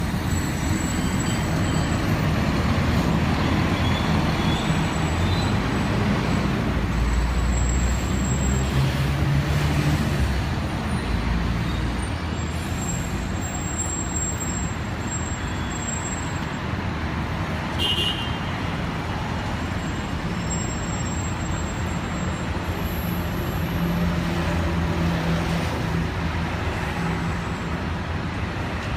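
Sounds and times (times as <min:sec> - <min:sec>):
road traffic: 0:00.0 - 0:28.9.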